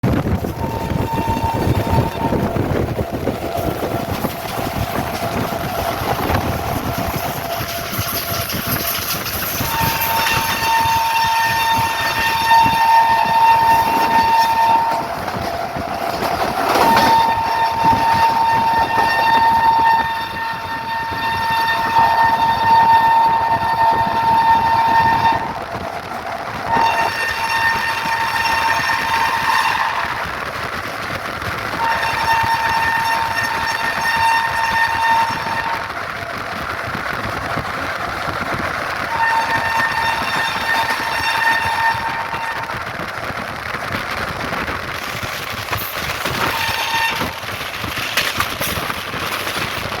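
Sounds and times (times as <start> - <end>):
train horn blasts: 0.0 - 49.9
train running: 0.0 - 50.0.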